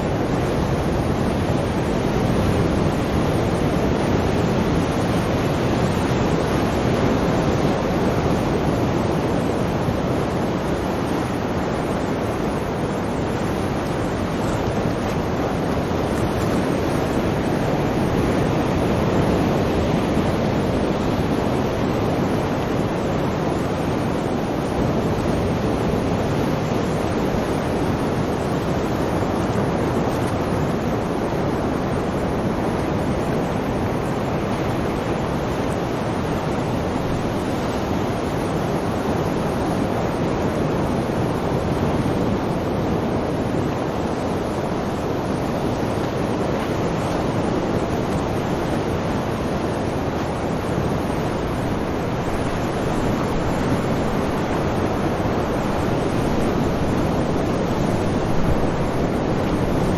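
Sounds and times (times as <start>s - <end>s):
sea waves surging: 0.0s - 59.9s.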